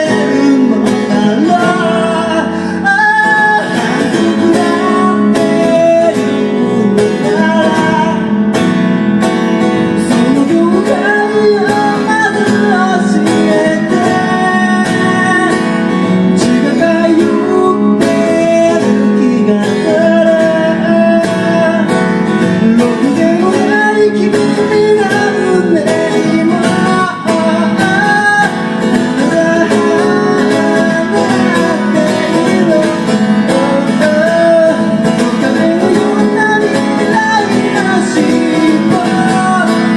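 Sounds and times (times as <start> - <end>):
person singing: 0.0 - 8.8, 9.8 - 39.9
guitar strummed and picked: 0.0 - 39.9.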